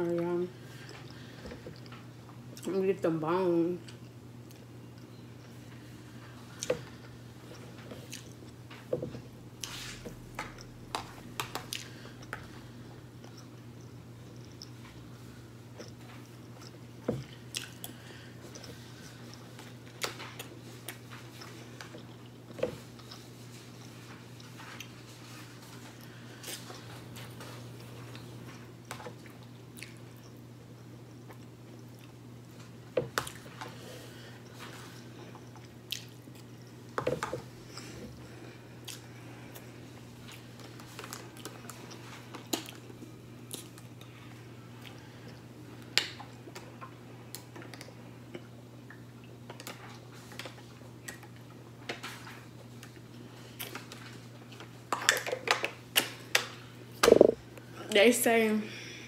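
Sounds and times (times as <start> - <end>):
steady low hum: 0.0 - 45.9, 56.6 - 59.0
person chewing food: 3.8 - 51.6.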